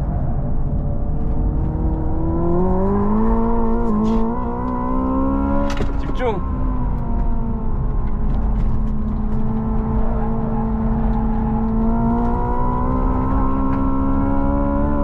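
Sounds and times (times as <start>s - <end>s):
tyre and road rumble: 0.0s - 14.8s
electric car drive hum: 0.0s - 15.0s.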